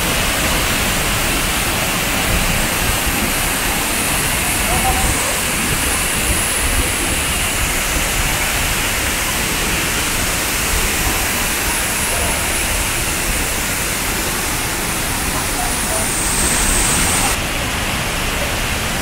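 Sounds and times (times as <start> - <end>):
waterfall rushing into pool: 0.0 - 19.0.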